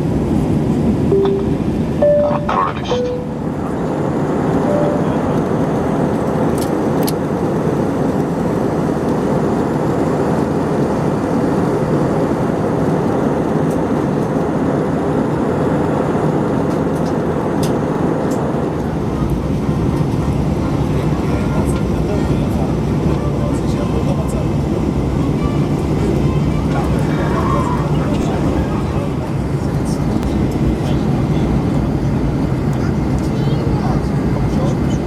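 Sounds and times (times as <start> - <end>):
airplane cabin roar: 0.0 - 35.0.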